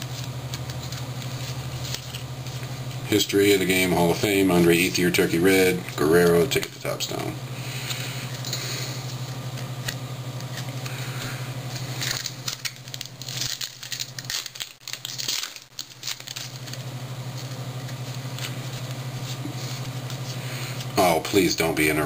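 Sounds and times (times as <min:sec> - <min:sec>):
cards and foil wrapper rustling: 0:00.0 - 0:22.0
low hum: 0:00.0 - 0:22.0.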